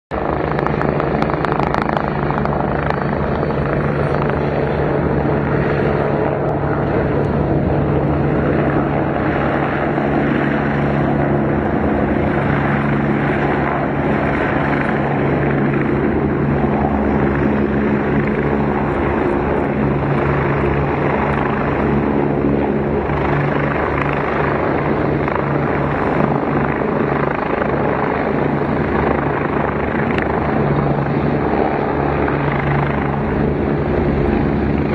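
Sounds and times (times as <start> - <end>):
helicopters flying past: 0.1 - 34.9.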